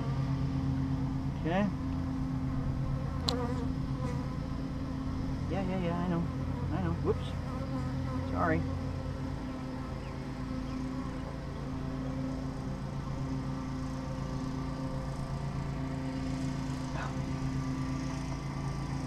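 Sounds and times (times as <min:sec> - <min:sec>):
honeybees humming: 0:00.0 - 0:19.0
high bee chirp: 0:02.8 - 0:04.8, 0:05.4 - 0:19.0.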